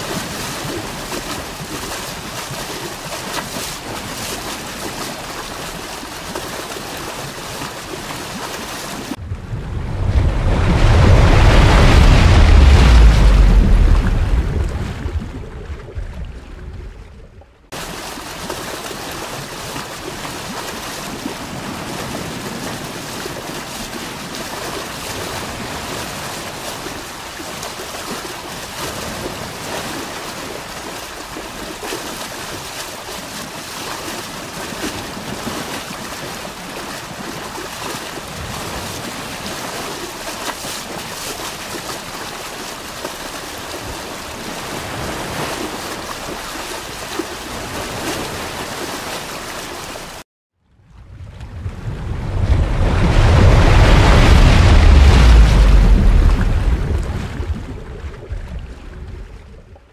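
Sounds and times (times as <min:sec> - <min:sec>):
sea water rushing: 0:00.0 - 0:50.2, 0:51.0 - 0:59.8
wind: 0:00.0 - 0:59.9.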